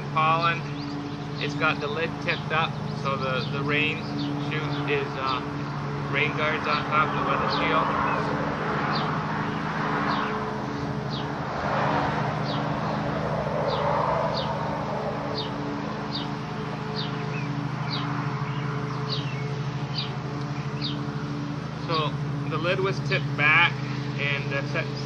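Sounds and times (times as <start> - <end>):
bird chirping: 0.0 - 25.0
low hum: 0.0 - 25.0.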